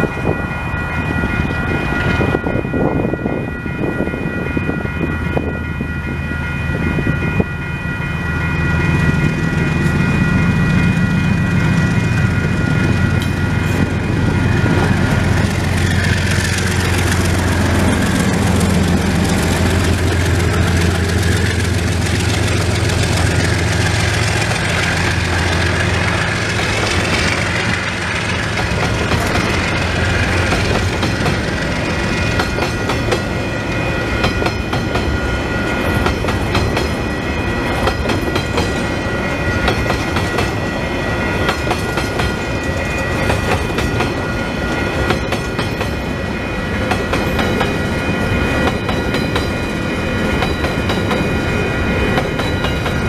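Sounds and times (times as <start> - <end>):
locomotive engine drone: 0.0 - 53.0.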